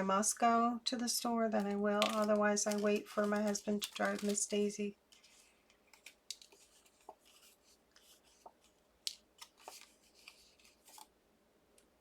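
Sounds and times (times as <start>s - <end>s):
card stock rustling and ticking: 1.0s - 11.1s.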